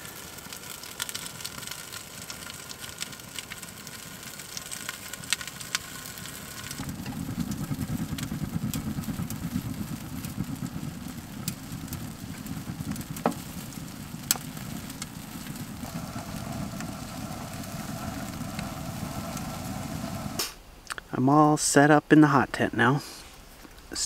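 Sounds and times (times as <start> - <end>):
wood fire rumbling: 0.0 - 20.8
fire crackles: 0.0 - 21.0.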